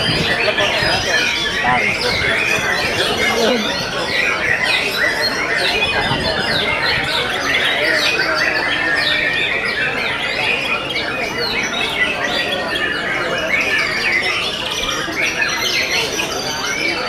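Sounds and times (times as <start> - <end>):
many birds singing: 0.0 - 17.0.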